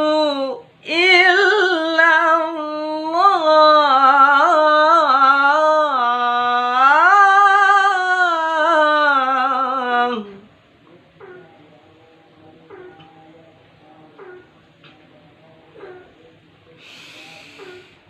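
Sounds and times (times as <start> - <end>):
melodic recitation by one voice: 0.0 - 18.0.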